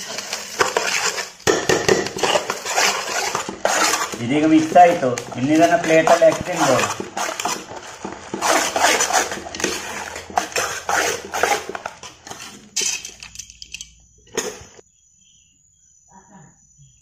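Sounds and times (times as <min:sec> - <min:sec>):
metal spoon scraping metal bowl: 0:00.0 - 0:14.8.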